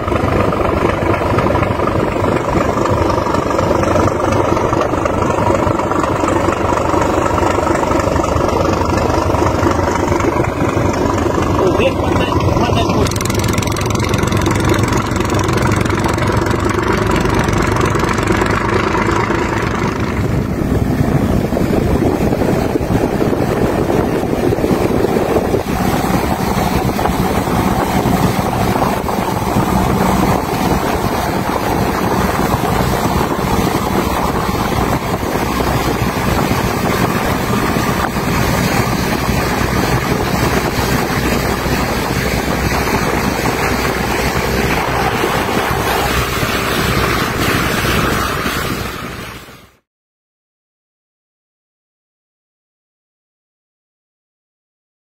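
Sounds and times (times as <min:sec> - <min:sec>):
boat engine running: 0:00.0 - 0:49.8
rushing water: 0:00.0 - 0:49.8
wind: 0:00.0 - 0:49.9.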